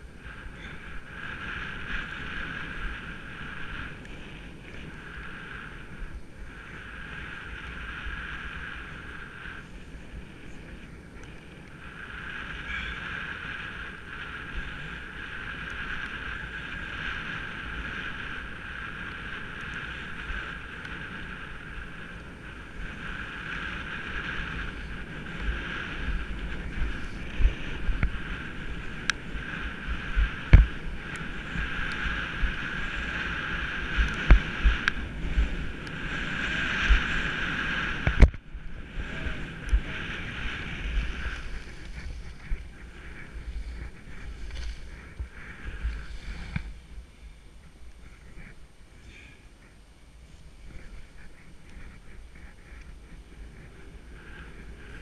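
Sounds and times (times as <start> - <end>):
skis hissing over snow: 0.0 - 38.2, 38.8 - 47.3
wind buffeting microphone: 0.0 - 55.0.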